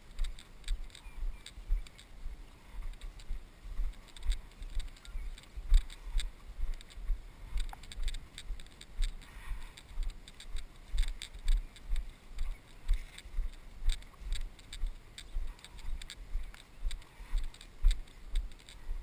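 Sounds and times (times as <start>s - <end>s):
footsteps through grass: 0.0s - 19.0s.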